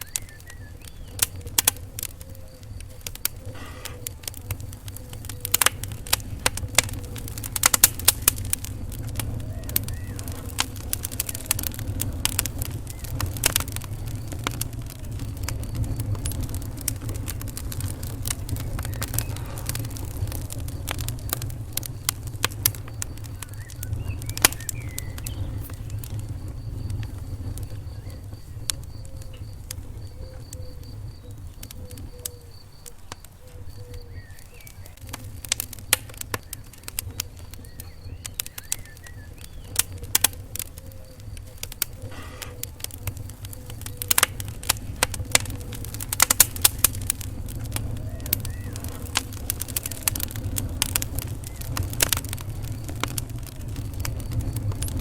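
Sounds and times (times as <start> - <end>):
low rumble of fire: 0.0 - 55.0
wood fire crackling and popping: 0.0 - 55.0.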